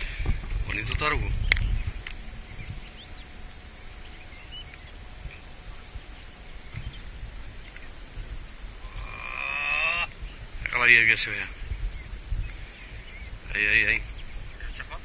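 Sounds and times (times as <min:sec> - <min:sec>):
faint bird chirps: 0:00.0 - 0:10.5, 0:11.1 - 0:15.0
wind rumbling on microphone: 0:00.0 - 0:15.0.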